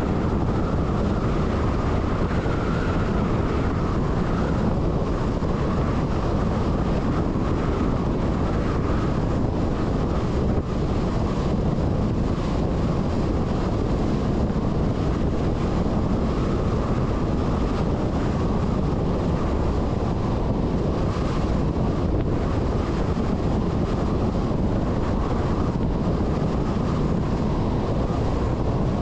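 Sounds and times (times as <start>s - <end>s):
truck running: 0.0s - 29.0s
wind noise on microphone: 0.0s - 29.0s.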